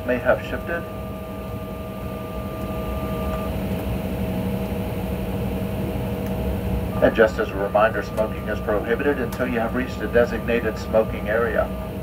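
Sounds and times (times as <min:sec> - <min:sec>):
jet engines idling rumble: 0:00.0 - 0:12.0.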